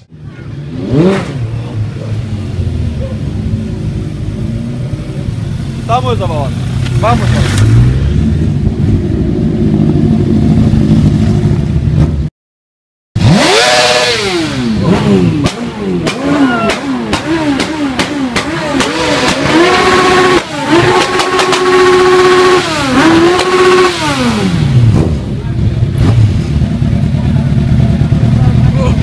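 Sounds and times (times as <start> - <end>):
motorcycle engine revving: 0.0 - 12.3, 13.2 - 29.0.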